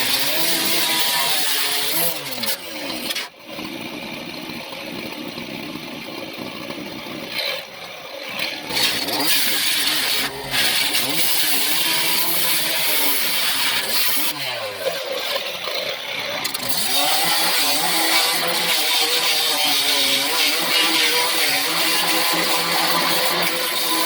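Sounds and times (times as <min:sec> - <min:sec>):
small gas engine revving: 0:00.0 - 0:24.0.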